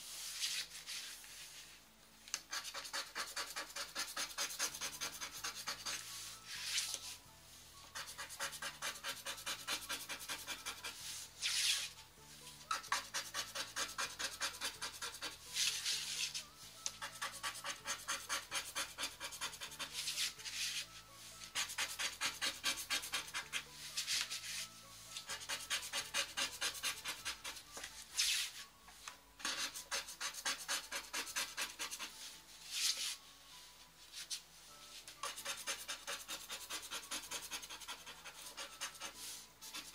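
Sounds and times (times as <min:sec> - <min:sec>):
scratch cards being scraped: 0:02.4 - 0:07.0, 0:07.9 - 0:12.0, 0:12.7 - 0:28.6, 0:29.4 - 0:32.2, 0:35.2 - 0:39.9.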